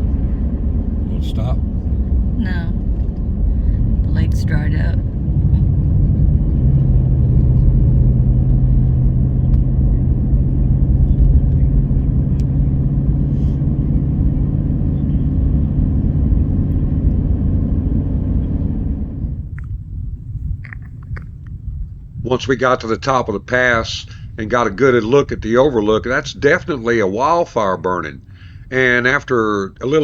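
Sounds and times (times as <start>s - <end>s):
car engine and road drone: 0.0s - 30.0s
low hum: 0.0s - 30.0s.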